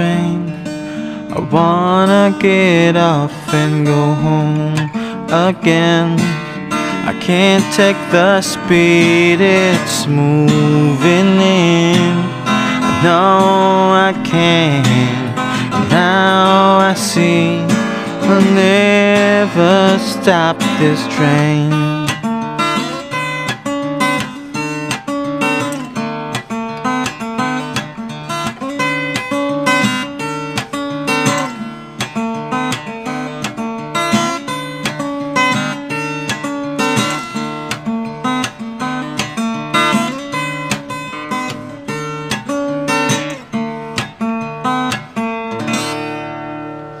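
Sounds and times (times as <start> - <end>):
solo acoustic guitar: 0.0 - 47.0.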